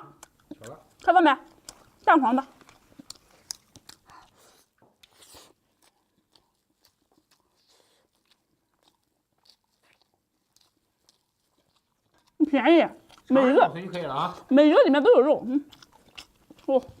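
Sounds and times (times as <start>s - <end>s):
chewing and mouth clicks: 0.0s - 14.6s, 15.4s - 17.0s.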